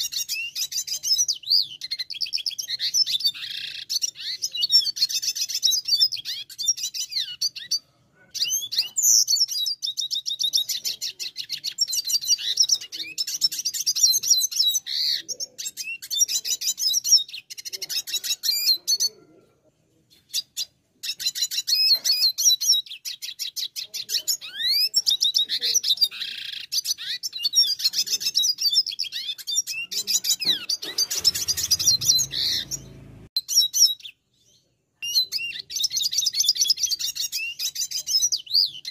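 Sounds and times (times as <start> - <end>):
bird trilling and chirping: 0.0 - 38.9.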